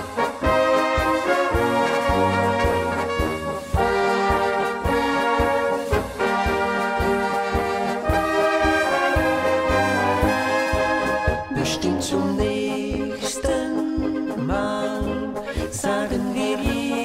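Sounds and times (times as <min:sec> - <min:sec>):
brass band playing: 0:00.0 - 0:15.8.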